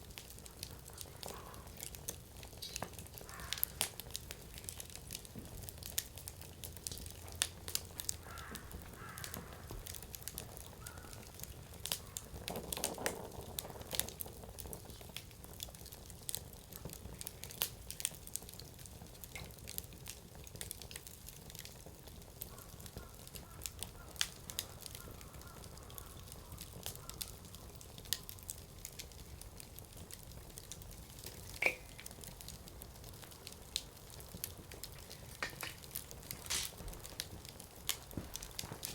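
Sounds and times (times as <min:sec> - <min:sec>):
fire crackling: 0:00.0 - 0:38.9
sharp pops of burning wood: 0:00.0 - 0:38.9.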